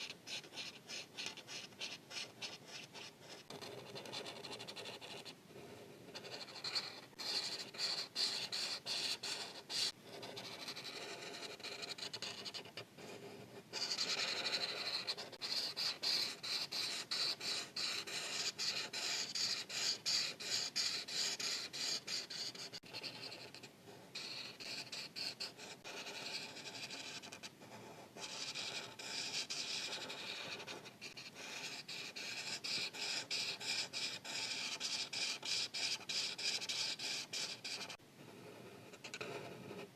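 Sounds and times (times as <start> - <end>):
marker scratching on paper: 0.0 - 39.9.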